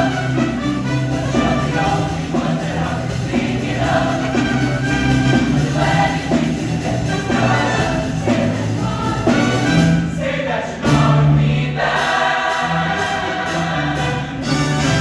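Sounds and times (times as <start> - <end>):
choir singing held chords: 0.0 - 15.0
instrumental backing: 0.0 - 15.0.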